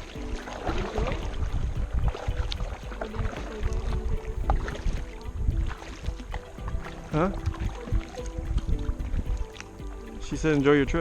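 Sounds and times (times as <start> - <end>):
paddle dipping and water splashing: 0.0 - 11.0
wind rumble on microphone: 0.0 - 11.0.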